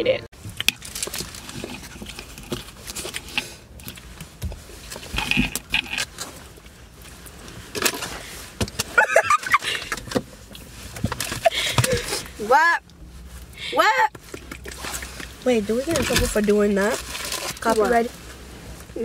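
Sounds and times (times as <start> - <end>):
rustles and clicks of handling: 0.4 - 19.0.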